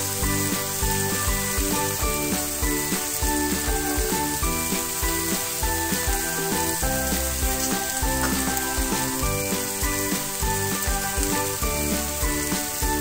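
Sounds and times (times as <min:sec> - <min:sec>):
mushrooms sizzling in pan: 0:00.0 - 0:13.0
music with steady beat: 0:00.0 - 0:13.0.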